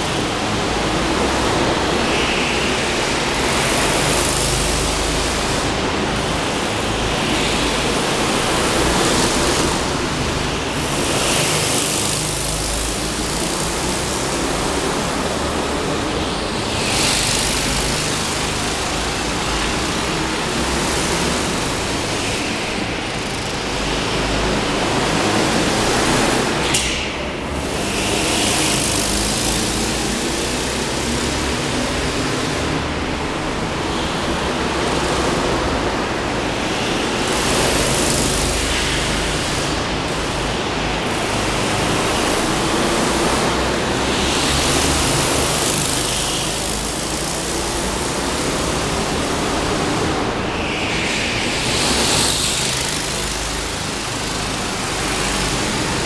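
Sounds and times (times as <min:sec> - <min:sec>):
go-kart engines passing: 0:00.0 - 0:56.0.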